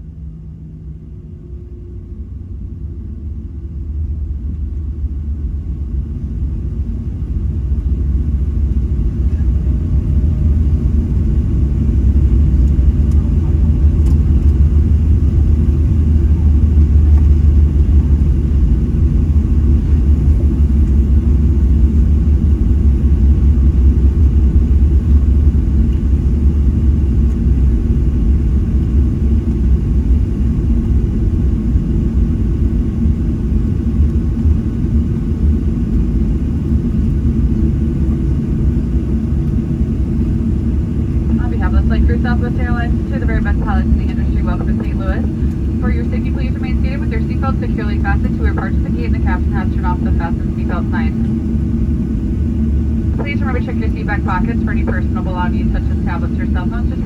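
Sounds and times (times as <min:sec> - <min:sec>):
airliner cabin rumble: 0:01.2 - 0:57.0.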